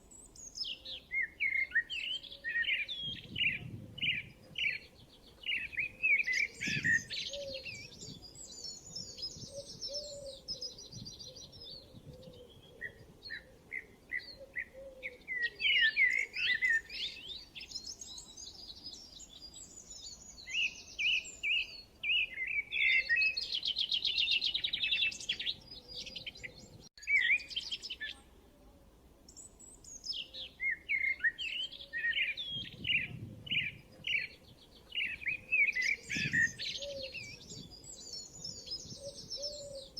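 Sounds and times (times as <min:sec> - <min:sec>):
birds singing and chirping: 0:00.0 - 0:28.2, 0:29.3 - 0:39.9.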